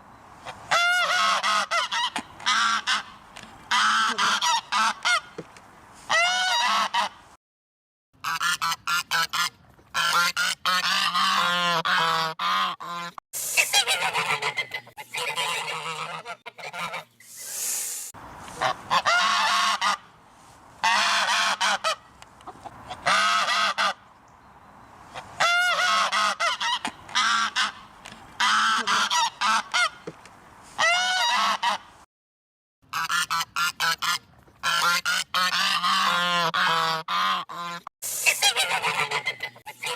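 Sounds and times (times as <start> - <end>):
geese honking: 0.7 - 5.3, 6.1 - 7.2, 8.2 - 17.2, 18.5 - 20.1, 20.8 - 24.0, 25.1 - 30.0, 30.8 - 31.9, 32.9 - 39.9.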